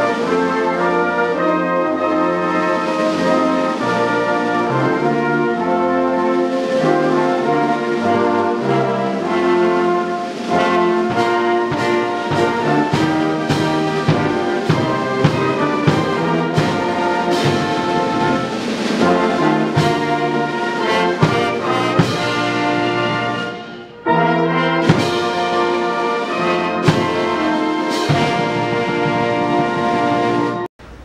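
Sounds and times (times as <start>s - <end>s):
brass band playing: 0.0s - 31.0s
drum beats: 0.0s - 31.0s.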